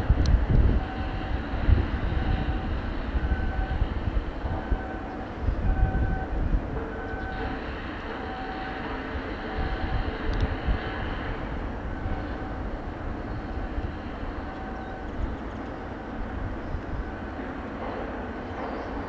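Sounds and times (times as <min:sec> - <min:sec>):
steady mechanical rumble: 0:00.0 - 0:19.0
wind gusts on microphone: 0:00.0 - 0:19.0.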